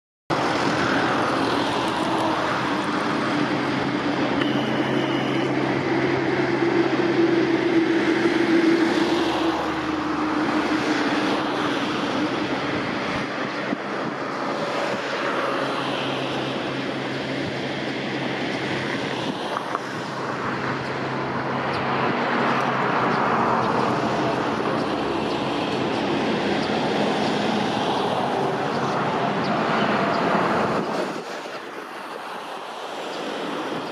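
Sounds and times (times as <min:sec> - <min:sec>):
cars passing: 0:00.3 - 0:33.9.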